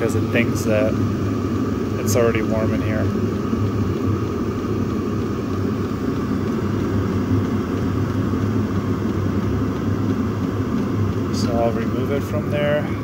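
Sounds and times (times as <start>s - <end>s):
heater hum with high whine: 0.0s - 13.0s.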